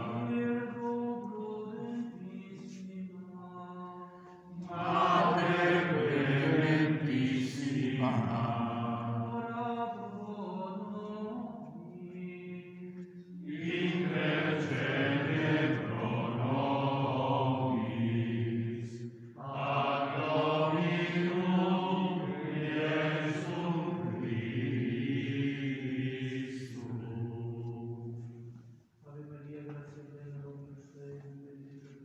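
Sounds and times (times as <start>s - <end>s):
voices chanting a prayer: 0.0s - 32.0s.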